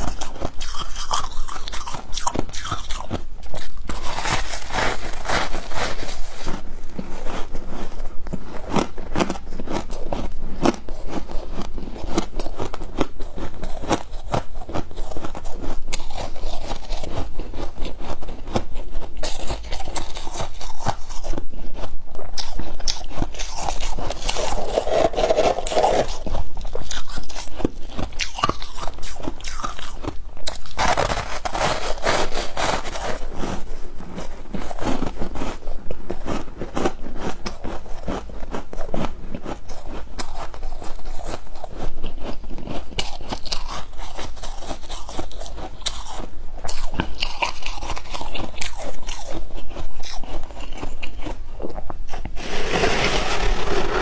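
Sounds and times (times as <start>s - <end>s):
ice crunching as chewed: 0.0s - 54.0s.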